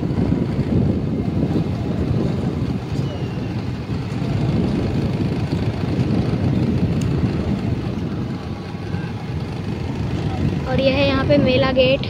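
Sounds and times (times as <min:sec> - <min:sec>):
motorcycle engine rumble: 0:00.0 - 0:12.0
wind on microphone: 0:00.0 - 0:12.0.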